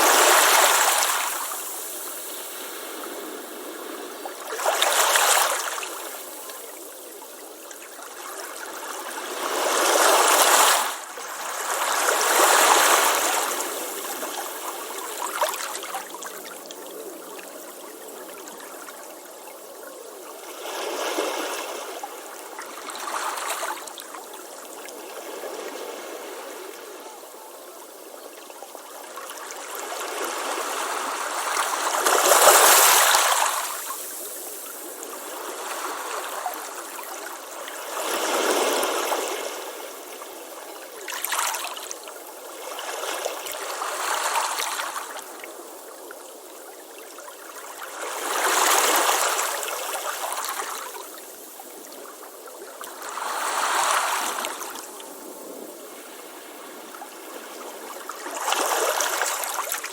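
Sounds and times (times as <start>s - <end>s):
ocean waves on a beach: 0.0s - 59.9s.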